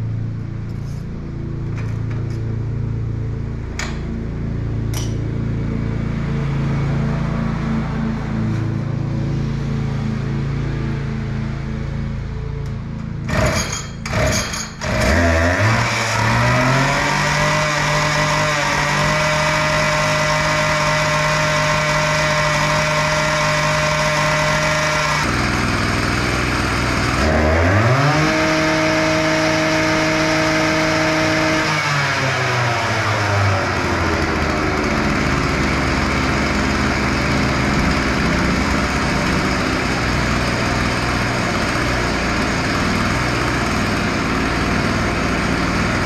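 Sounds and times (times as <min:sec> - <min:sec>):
lawn mower engine revving: 0:00.0 - 0:46.0.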